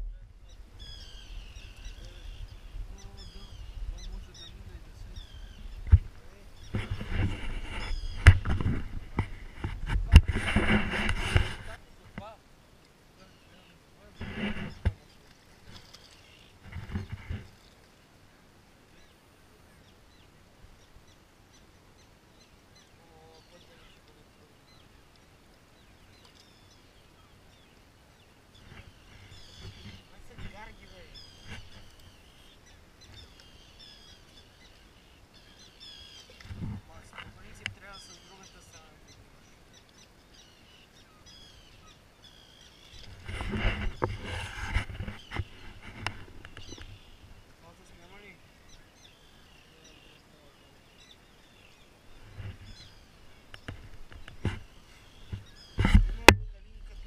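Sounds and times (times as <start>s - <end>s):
birds chirping: 0.0s - 57.0s
steady background hiss: 0.0s - 57.0s.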